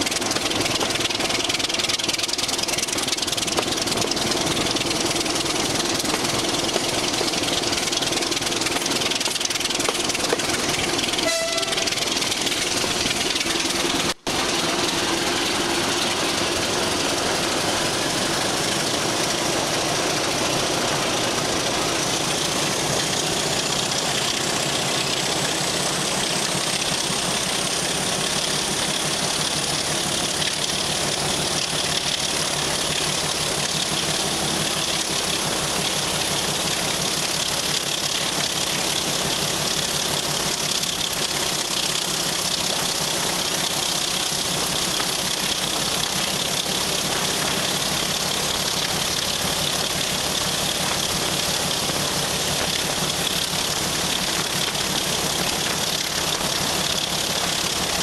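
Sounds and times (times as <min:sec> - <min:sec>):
diesel locomotive engine running: 0:00.0 - 0:58.0.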